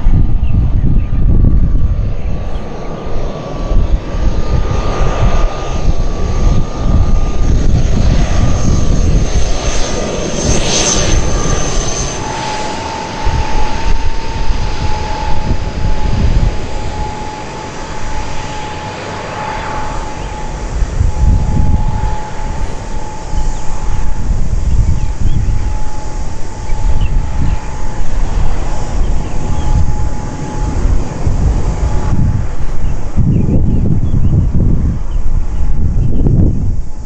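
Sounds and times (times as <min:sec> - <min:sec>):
turboprop airliner flying past: 0:00.0 - 0:37.0.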